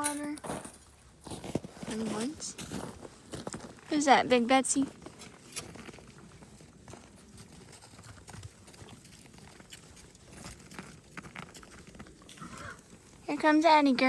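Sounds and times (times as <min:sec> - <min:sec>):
cattle knocking and shuffling: 0:01.4 - 0:14.0.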